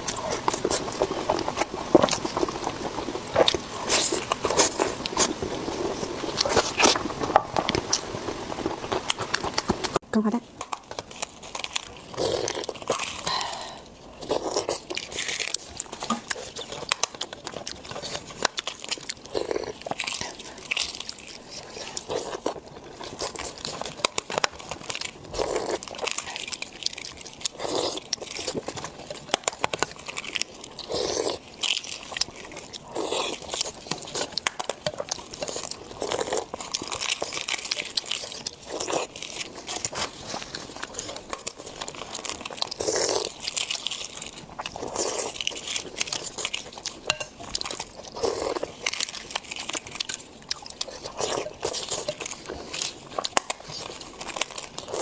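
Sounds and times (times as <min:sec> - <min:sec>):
food crunching: 0:00.0 - 0:55.0
wet smacking chewing: 0:00.0 - 0:55.0.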